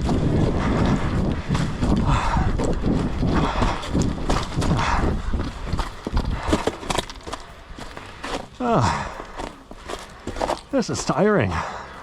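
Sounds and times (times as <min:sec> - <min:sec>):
running footsteps: 0:00.0 - 0:12.0
hard breathing: 0:00.2 - 0:10.7, 0:11.5 - 0:12.0.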